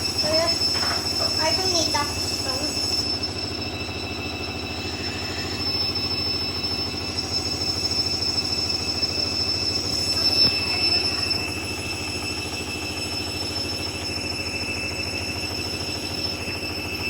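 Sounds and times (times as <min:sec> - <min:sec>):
washing machine motor whine: 0:00.0 - 0:17.0.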